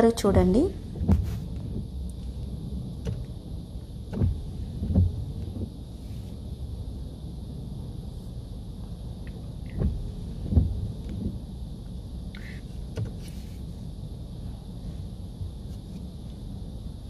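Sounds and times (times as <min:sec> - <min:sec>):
low rumble of car wash: 0:00.0 - 0:17.0.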